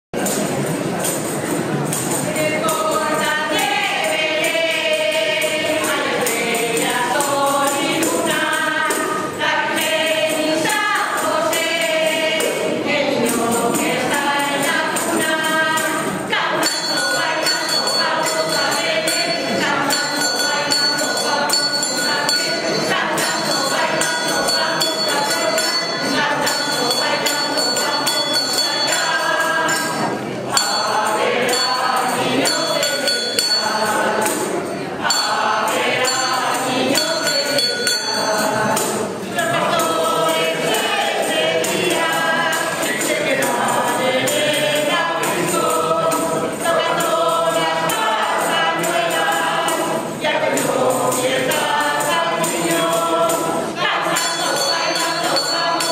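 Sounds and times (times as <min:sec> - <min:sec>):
jingling percussion: 0:00.2 - 0:55.9
mixed choir singing: 0:00.2 - 0:55.9.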